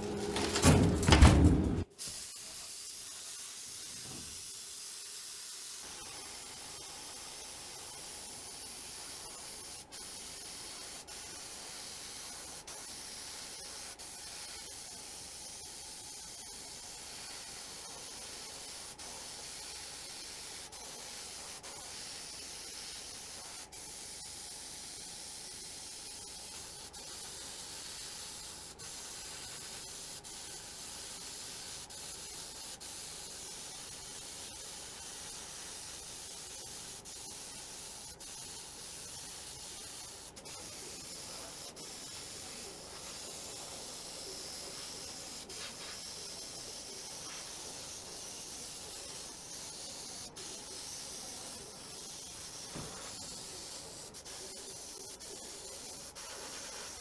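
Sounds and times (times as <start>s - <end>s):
spraying hiss: 1.8s - 57.0s.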